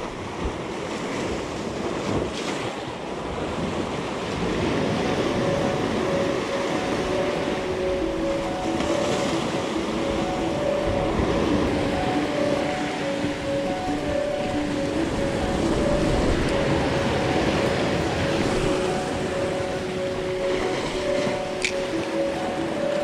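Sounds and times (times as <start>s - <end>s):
wind buffeting microphone: 0.0s - 23.0s
surf breaking over rocks: 3.4s - 23.0s
faint music with held notes: 4.4s - 23.0s.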